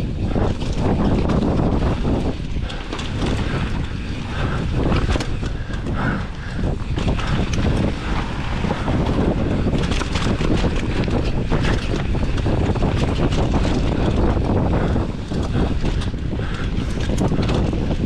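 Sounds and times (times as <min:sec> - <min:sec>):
bike clicking and rattling: 0:00.0 - 0:18.0
tyre noise: 0:00.0 - 0:18.0
wind buffeting microphone: 0:00.0 - 0:18.0.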